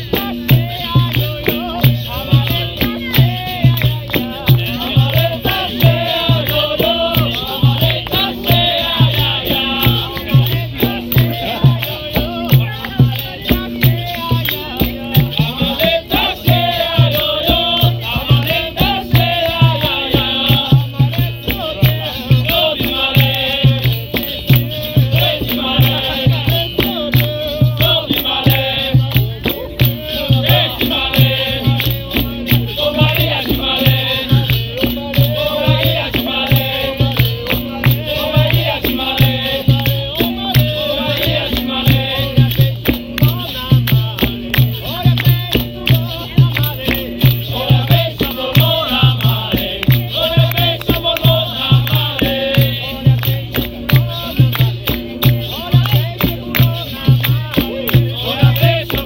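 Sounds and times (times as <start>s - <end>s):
shaken rattle: 0.0s - 59.0s.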